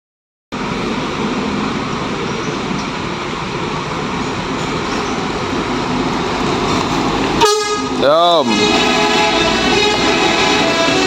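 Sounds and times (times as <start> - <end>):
diesel bus engines rumbling: 0.5 - 11.0.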